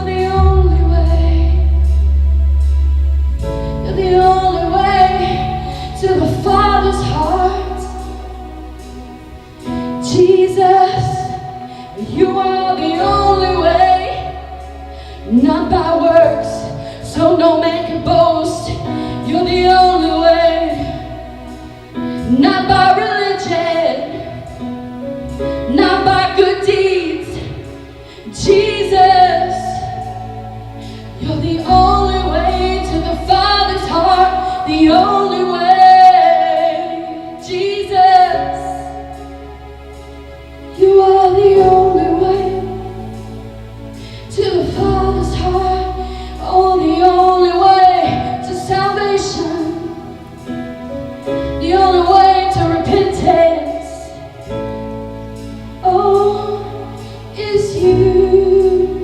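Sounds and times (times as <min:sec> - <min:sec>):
church band playing: 0:00.0 - 0:59.0
low bass notes: 0:00.0 - 0:59.0.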